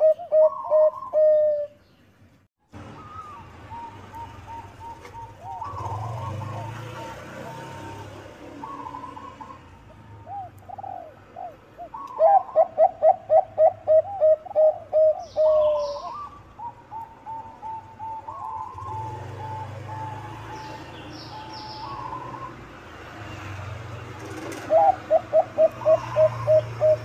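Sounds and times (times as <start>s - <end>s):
dove cooing: 0.0s - 1.8s, 2.9s - 22.6s, 24.2s - 27.0s.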